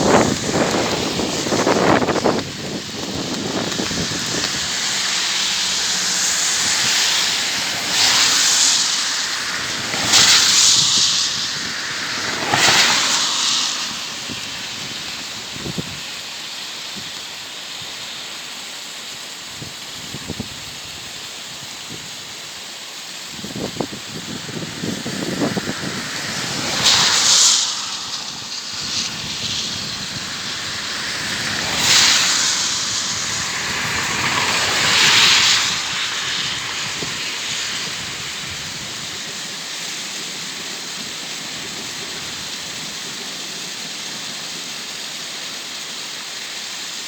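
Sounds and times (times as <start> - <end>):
electric train passing: 0.0 - 16.0, 23.2 - 45.4.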